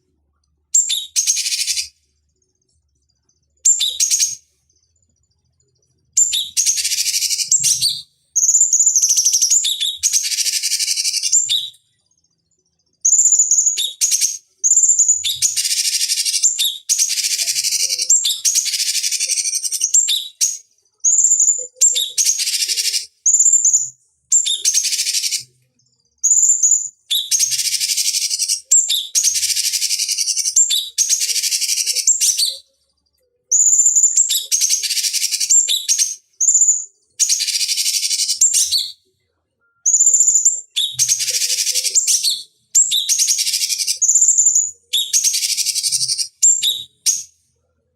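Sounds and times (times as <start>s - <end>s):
bulbul singing: 0.7s - 2.0s, 3.6s - 5.3s, 6.0s - 12.0s, 12.9s - 25.6s, 26.2s - 32.8s, 33.5s - 39.0s, 39.8s - 47.4s.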